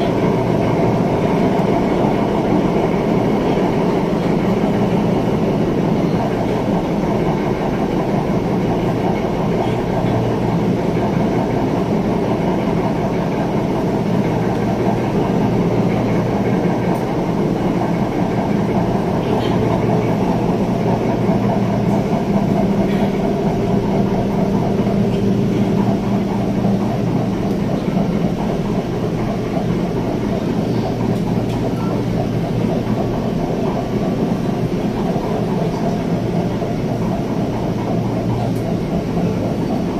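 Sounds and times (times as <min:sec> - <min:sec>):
continuous low hum: 0:00.0 - 0:39.9
train wheels rumbling on rail: 0:00.0 - 0:39.9.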